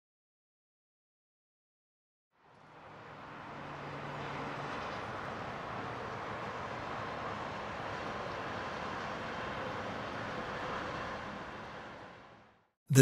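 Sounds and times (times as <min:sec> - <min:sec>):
distant urban traffic hum: 0:02.4 - 0:13.0.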